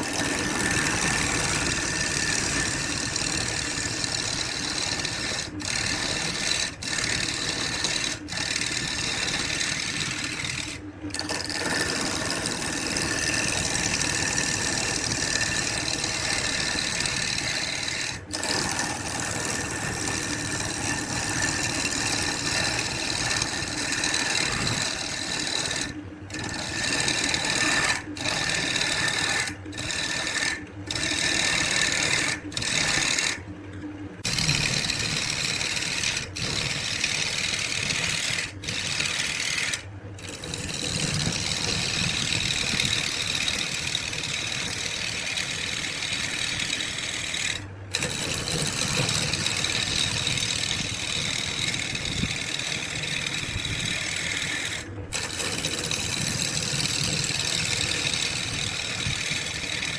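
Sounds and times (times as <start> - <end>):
power tool motor whining: 0.0 - 33.4, 34.2 - 59.9.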